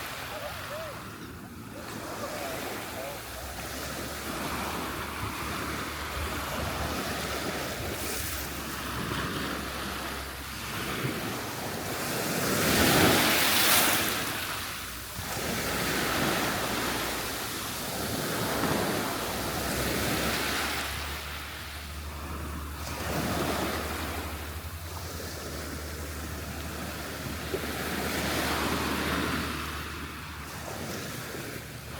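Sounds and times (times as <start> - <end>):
surf breaking on beach: 0.0 - 31.9
wind rumbling on microphone: 0.0 - 31.9.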